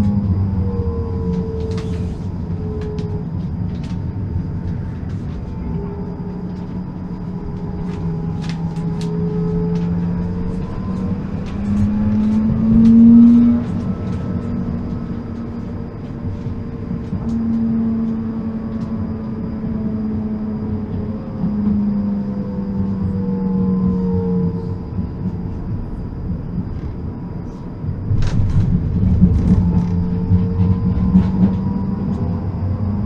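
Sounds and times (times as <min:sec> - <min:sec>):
tram electric drive whine: 0:00.0 - 0:33.0
wheel-on-rail rumble: 0:00.0 - 0:33.0.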